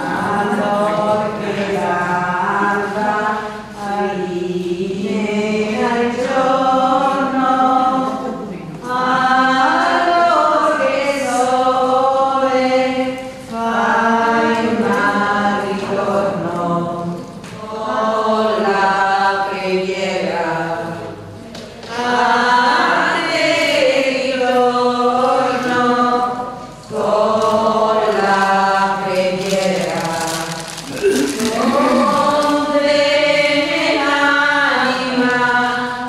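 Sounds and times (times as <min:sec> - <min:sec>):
congregation singing a hymn: 0:00.0 - 0:36.0.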